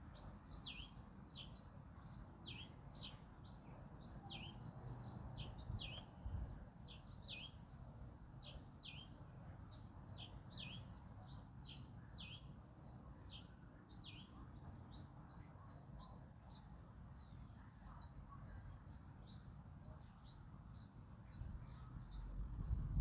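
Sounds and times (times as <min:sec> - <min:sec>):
low rumble of wind: 0:00.0 - 0:15.3, 0:18.5 - 0:23.0
small birds chirping: 0:00.0 - 0:23.0.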